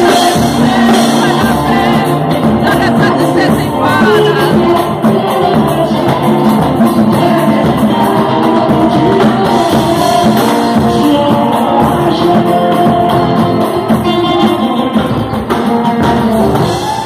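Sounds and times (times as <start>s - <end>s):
live band music: 0.0s - 17.0s
percussion: 0.0s - 17.0s
singing: 0.0s - 17.0s.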